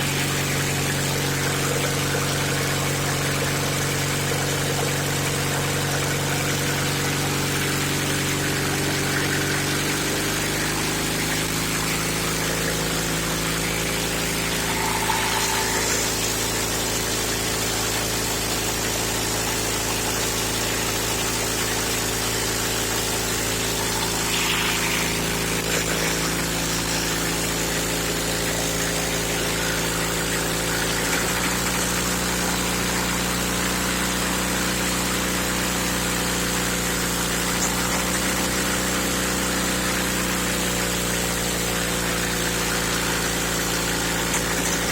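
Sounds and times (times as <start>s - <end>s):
engine running: 0.0s - 44.9s.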